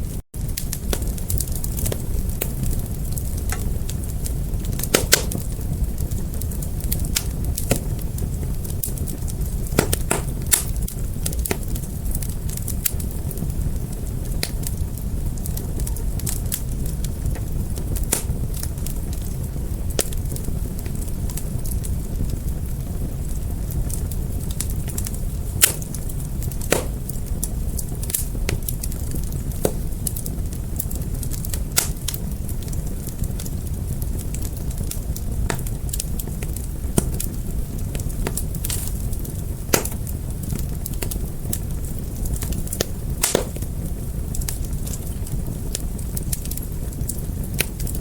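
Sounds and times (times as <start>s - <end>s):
fire crackling and popping: 0.0s - 48.0s.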